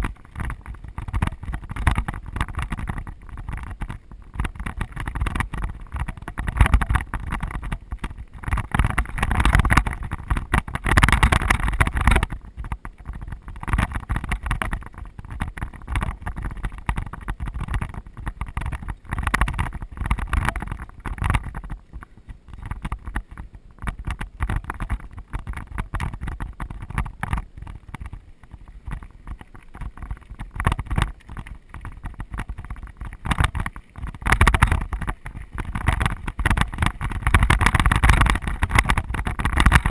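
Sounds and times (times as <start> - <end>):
bike clicking and rattling: 0.0 - 39.9
wind buffeting microphone: 0.0 - 39.9.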